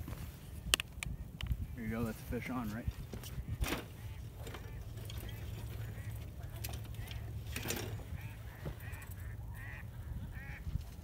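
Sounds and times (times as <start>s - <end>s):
birds calling: 0.0s - 11.0s
low wind rumble on microphone: 0.0s - 11.0s.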